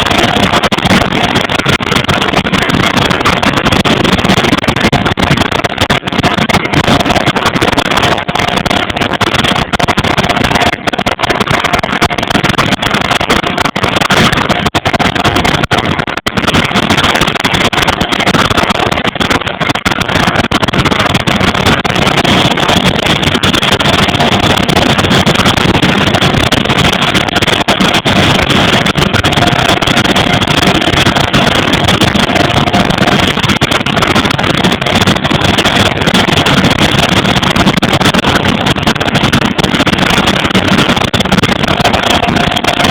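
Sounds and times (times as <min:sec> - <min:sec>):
faint steady whine: 0:00.0 - 0:42.9.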